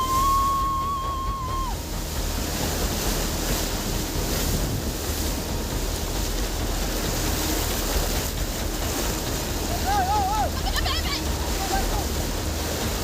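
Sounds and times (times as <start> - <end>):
waves rushing: 0.0 - 13.0
wind buffeting microphone: 0.0 - 13.0.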